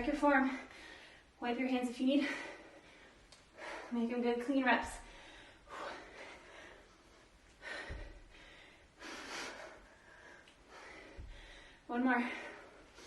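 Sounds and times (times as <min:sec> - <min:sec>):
woman breathing hard: 0:00.5 - 0:01.4, 0:02.2 - 0:04.0, 0:04.9 - 0:13.0.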